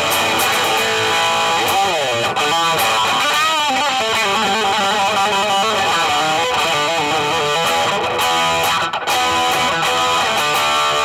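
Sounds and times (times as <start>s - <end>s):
electric guitar lead line: 0.0s - 11.0s.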